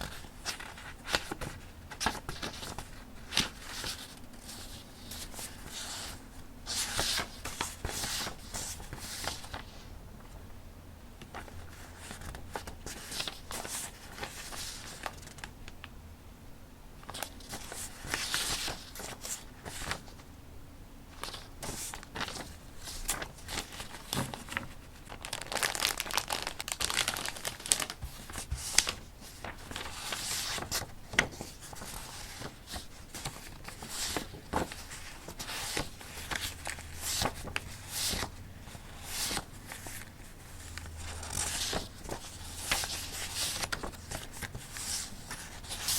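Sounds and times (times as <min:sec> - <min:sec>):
paper rustling and crinkling: 0:00.0 - 0:09.9, 0:11.2 - 0:15.8, 0:17.0 - 0:20.3, 0:21.2 - 0:45.9.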